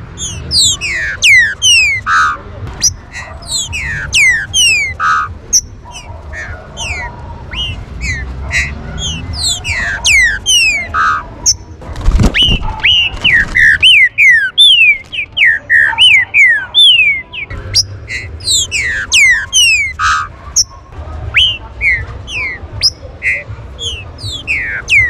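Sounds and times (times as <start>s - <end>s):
birds whistling: 0.0s - 25.0s.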